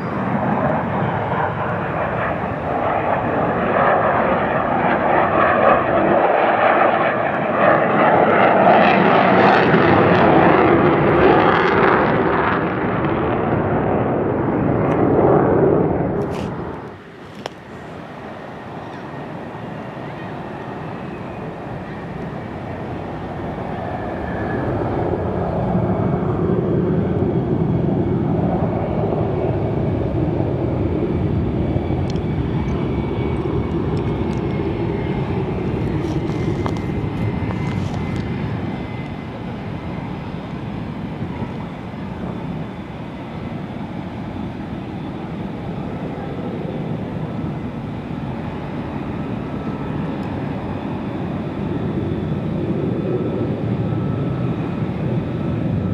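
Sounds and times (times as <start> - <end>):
jet engine rumble: 0.0 - 55.9.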